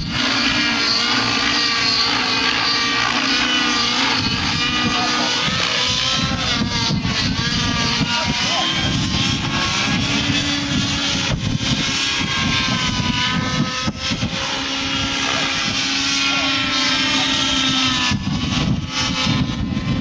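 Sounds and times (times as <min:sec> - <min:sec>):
model helicopter engine whine: 0:00.0 - 0:20.0.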